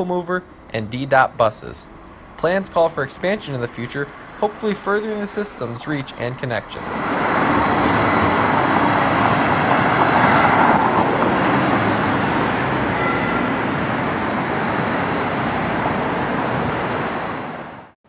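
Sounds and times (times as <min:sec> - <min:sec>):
rush of traffic: 0:00.0 - 0:18.0
cars passing close by: 0:00.4 - 0:18.0.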